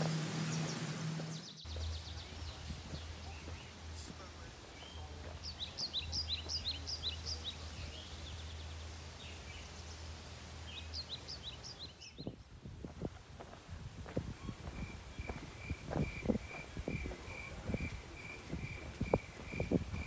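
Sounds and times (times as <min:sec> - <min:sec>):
bird chirping: 0:00.0 - 0:12.6, 0:14.3 - 0:20.0
steady low hum: 0:00.0 - 0:20.0.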